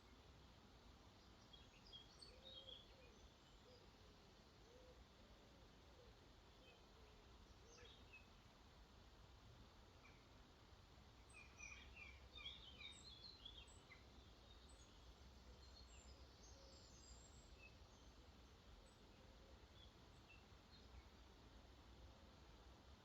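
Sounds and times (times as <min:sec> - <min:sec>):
faint background hiss: 0:00.0 - 0:23.0.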